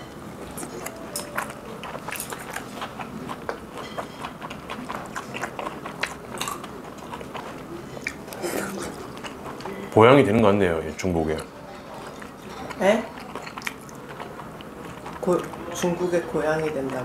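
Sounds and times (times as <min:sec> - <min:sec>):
person chewing food: 0:00.0 - 0:10.0, 0:11.3 - 0:17.0.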